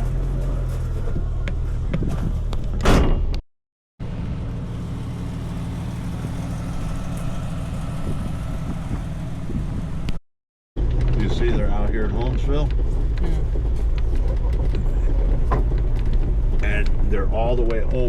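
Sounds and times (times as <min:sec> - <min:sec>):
off-road vehicle engine running: 0:00.0 - 0:02.8, 0:04.0 - 0:10.2, 0:10.8 - 0:18.0.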